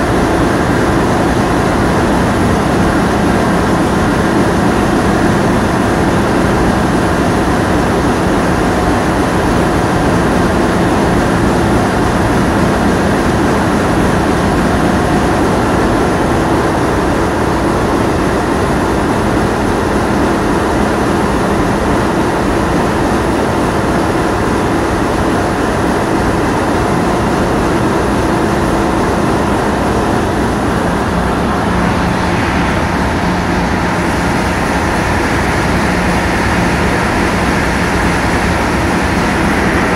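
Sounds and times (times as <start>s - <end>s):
boat engine humming: 0.0s - 39.9s
wind and water rushing: 0.0s - 39.9s.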